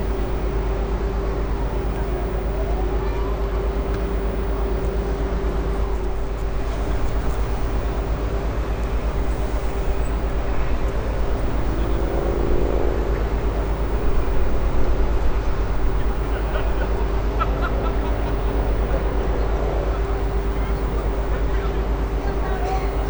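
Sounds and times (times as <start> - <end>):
ship engines rumbling: 0.0 - 23.0.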